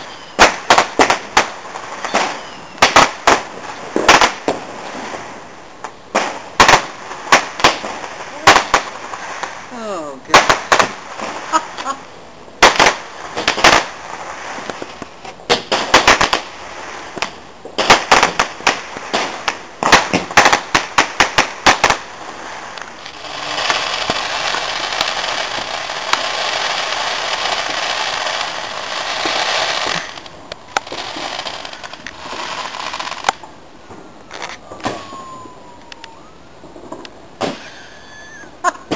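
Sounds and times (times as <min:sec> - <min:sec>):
fireworks sharp bangs: 0:00.0 - 0:38.0
fireworks hissing crackle: 0:00.0 - 0:38.9.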